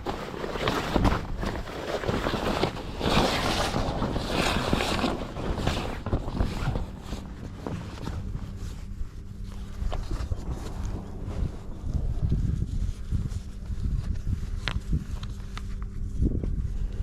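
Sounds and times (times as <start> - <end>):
sail and rigging rustling: 0.0 - 17.0
wind gusting on microphone: 0.0 - 17.0.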